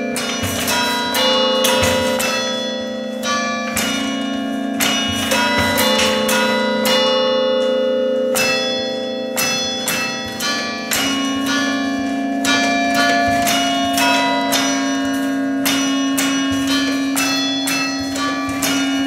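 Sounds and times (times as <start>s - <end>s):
tower bells playing a slow tune: 0.0s - 19.0s.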